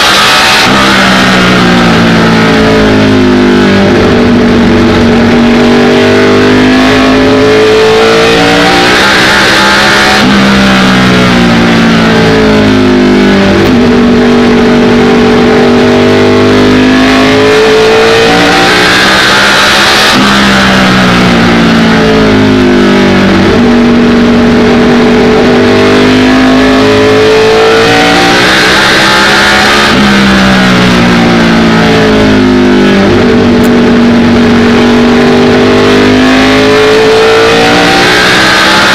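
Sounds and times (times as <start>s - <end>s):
race car engine running hard: 0.0s - 38.9s
wind and tyre noise: 0.0s - 38.9s.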